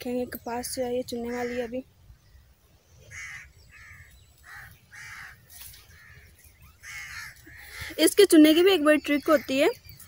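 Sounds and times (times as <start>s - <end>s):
birds calling roughly: 0.0s - 10.0s.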